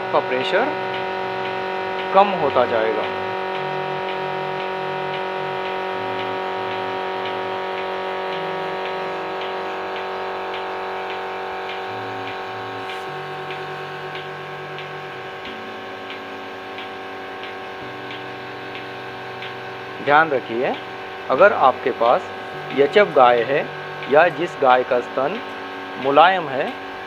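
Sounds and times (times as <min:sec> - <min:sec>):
vacuum pump humming: 0:00.0 - 0:27.0
pulsator ticking: 0:00.3 - 0:27.0.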